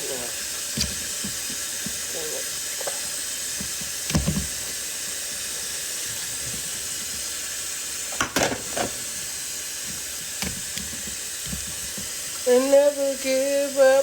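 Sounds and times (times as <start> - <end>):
water running from tap: 0.0 - 14.0.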